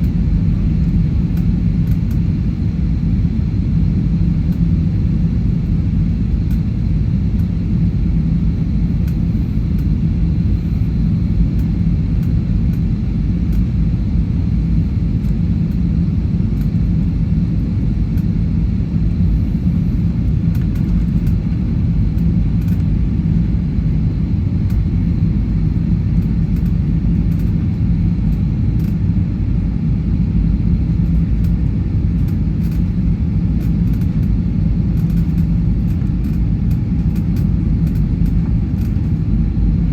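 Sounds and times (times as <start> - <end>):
airliner cabin rumble: 0.0 - 39.9
steady low hum: 0.0 - 39.9.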